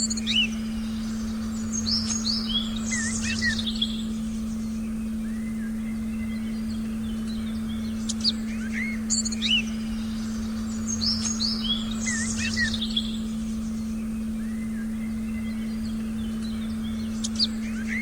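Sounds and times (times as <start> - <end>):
birds chirping: 0.0 - 18.0
steady low tone: 0.0 - 18.0.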